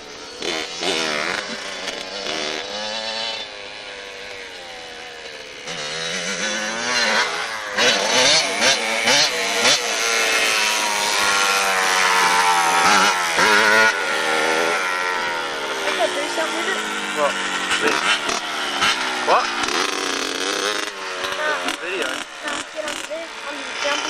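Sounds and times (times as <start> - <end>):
small motorbike engine revving: 0.0 - 24.0.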